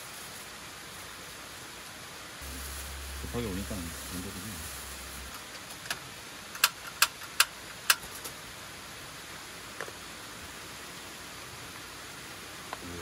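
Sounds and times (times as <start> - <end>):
low gas hiss: 0.0 - 13.0.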